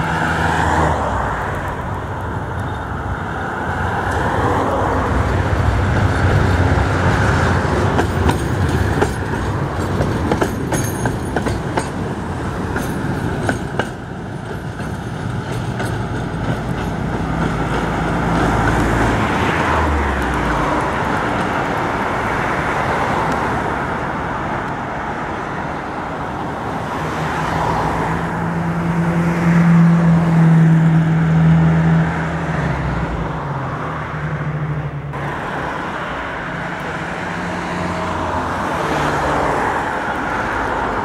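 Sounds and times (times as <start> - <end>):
city street traffic: 0.0 - 41.0
passing vehicle hum: 0.0 - 41.0.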